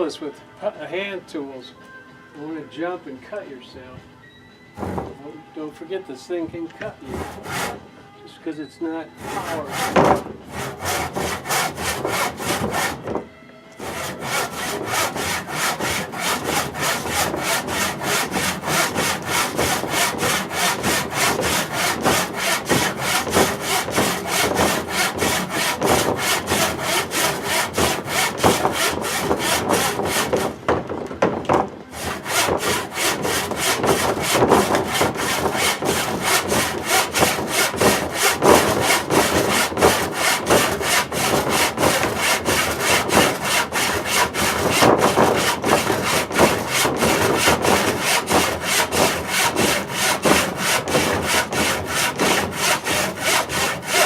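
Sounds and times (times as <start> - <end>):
hand saw cutting wood: 6.8 - 7.8, 9.2 - 13.2, 13.8 - 54.0.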